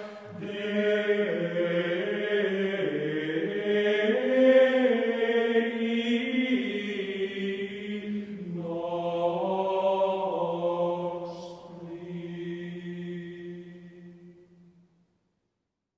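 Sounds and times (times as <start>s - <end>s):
slow chanting voices: 0.0s - 14.8s.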